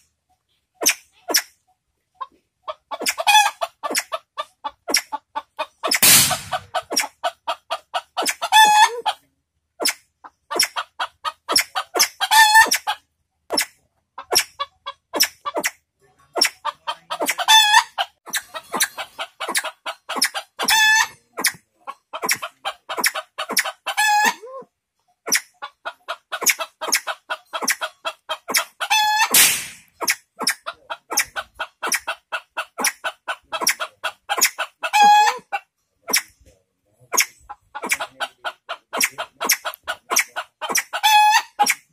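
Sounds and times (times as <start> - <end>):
fowl clucking: 0.8 - 9.2, 9.8 - 15.8, 16.4 - 24.6, 25.2 - 36.4, 37.1 - 41.9.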